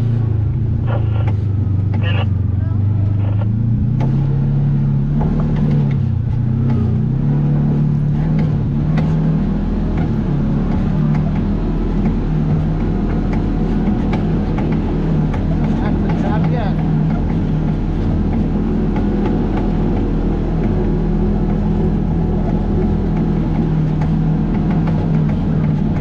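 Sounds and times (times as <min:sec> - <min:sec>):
off-road vehicle engine: 0:00.0 - 0:26.0
knocks and rattles: 0:05.1 - 0:26.0.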